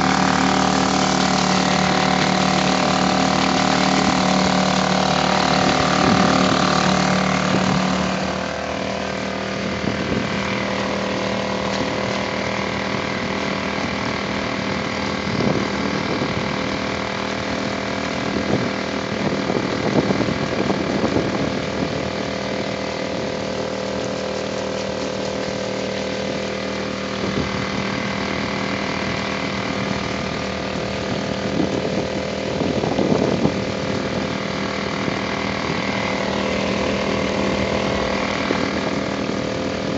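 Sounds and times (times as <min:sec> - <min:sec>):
outboard motor running: 0:00.0 - 0:39.9
water noise: 0:00.0 - 0:39.9.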